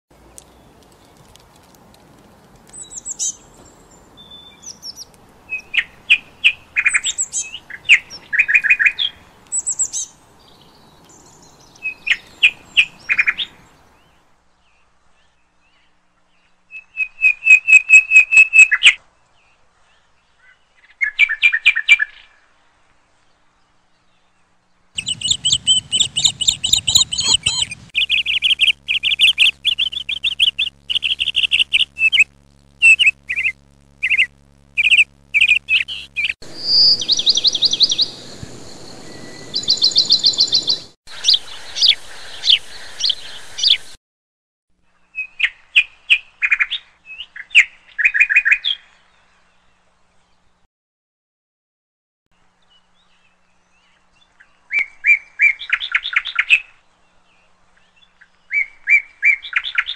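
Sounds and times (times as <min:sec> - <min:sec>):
birds chirping and trilling: 0:02.7 - 0:17.5, 0:18.6 - 0:44.0, 0:44.9 - 0:50.6, 0:52.4 - 0:59.9.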